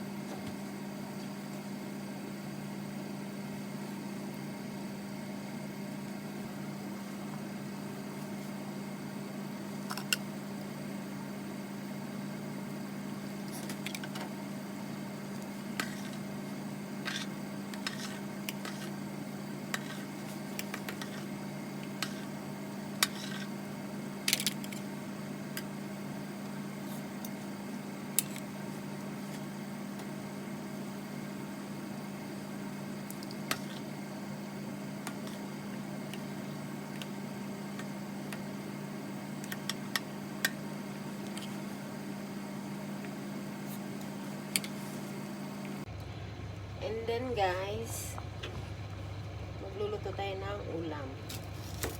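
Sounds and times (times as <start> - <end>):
kitchen appliance humming: 0.0 - 51.9.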